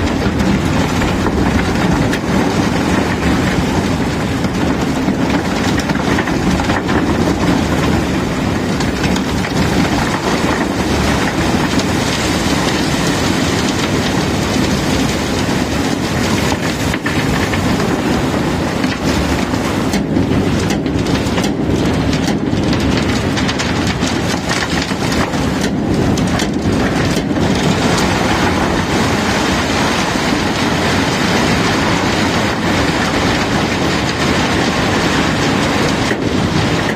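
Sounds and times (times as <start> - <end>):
machinery running: 0.0 - 36.9.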